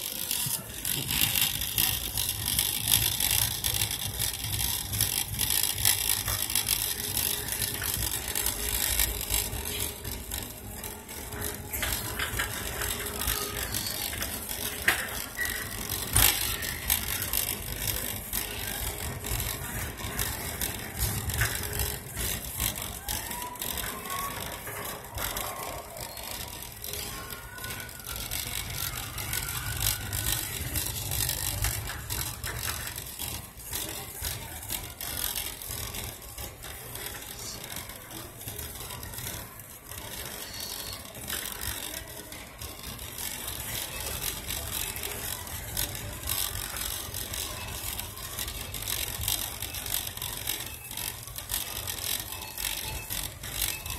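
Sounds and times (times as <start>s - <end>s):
cart wheels clicking: 0.0s - 53.9s
shopping cart rattling: 0.0s - 53.9s.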